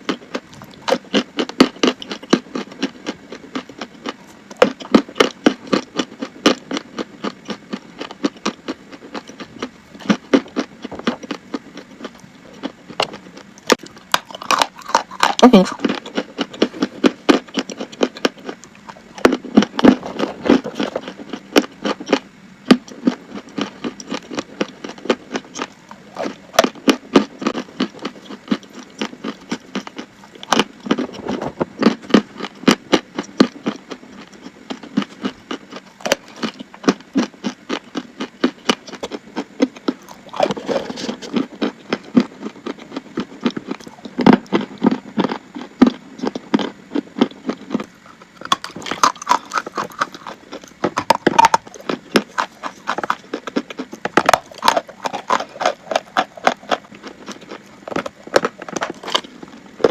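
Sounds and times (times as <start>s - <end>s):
chalk crunching being chewed: 0.0s - 59.9s.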